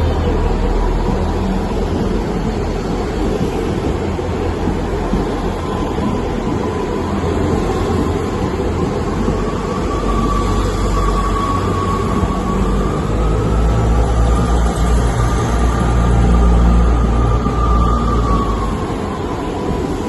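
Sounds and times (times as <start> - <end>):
diesel train engine rumbling: 0.0 - 20.0
steady high whine: 0.0 - 20.0.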